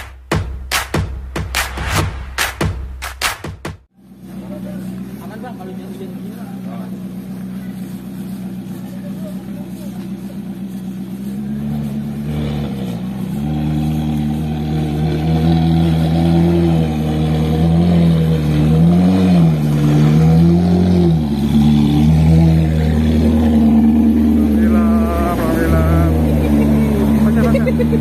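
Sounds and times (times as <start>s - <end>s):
car engine at low revs: 4.0s - 28.0s.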